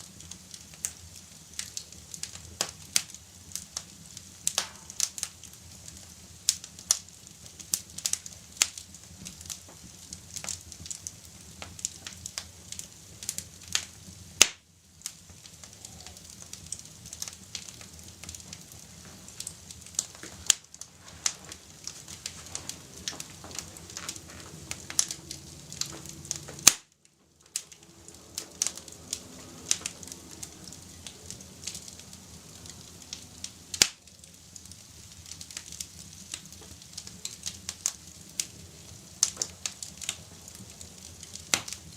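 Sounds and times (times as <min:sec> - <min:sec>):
soft steady hiss: 0:00.0 - 0:41.9
wood fire crackling and popping: 0:00.0 - 0:41.9.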